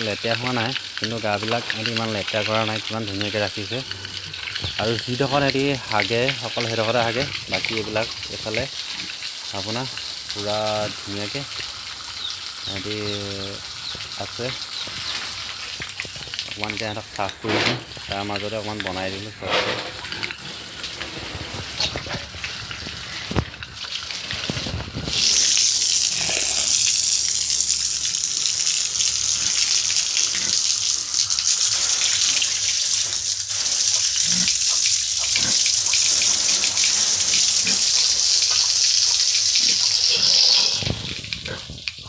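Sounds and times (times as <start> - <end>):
water jet hissing: 0.0 - 41.4.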